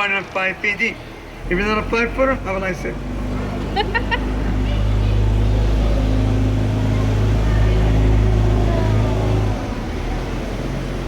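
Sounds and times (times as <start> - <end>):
boat motor humming: 0.5 - 11.0.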